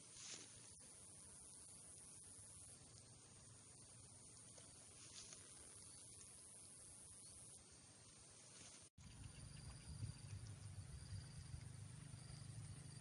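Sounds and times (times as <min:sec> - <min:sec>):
high-pitched insect hum: 0:00.0 - 0:13.0.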